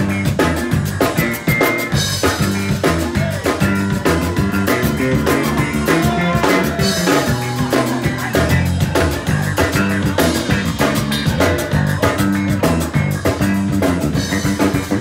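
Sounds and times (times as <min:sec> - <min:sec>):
drum kit: 0:00.0 - 0:15.0
electric guitar: 0:00.0 - 0:15.0
live band playing: 0:00.0 - 0:15.0.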